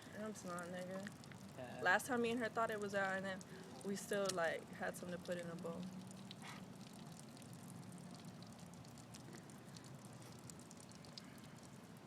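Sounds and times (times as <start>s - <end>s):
small droplet ticks: 0.0s - 1.6s, 2.7s - 12.0s
water trickling and dripping: 0.0s - 12.0s.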